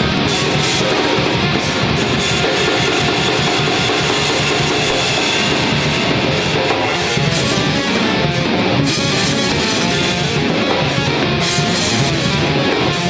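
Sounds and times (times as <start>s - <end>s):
drum kit: 0.0s - 13.0s
electric guitars: 0.0s - 13.0s.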